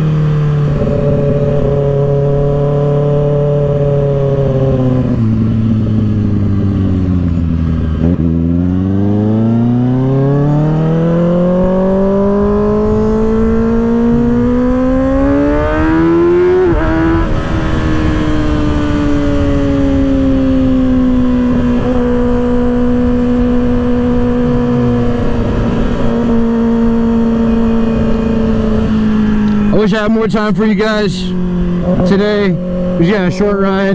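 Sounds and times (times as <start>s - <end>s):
motorcycle engine accelerating: 0.0s - 33.9s
road and wind noise: 0.0s - 33.9s.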